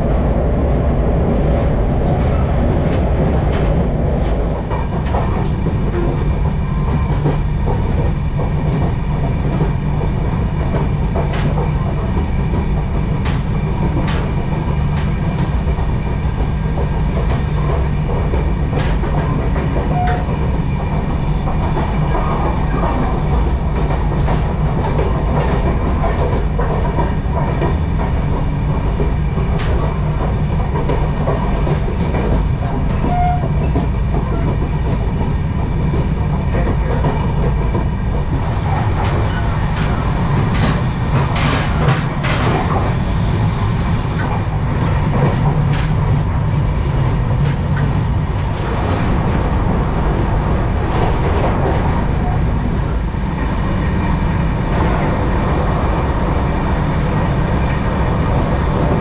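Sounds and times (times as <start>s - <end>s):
train wheels rumbling on track: 0.0s - 59.0s
rail joint clicks: 0.1s - 59.0s.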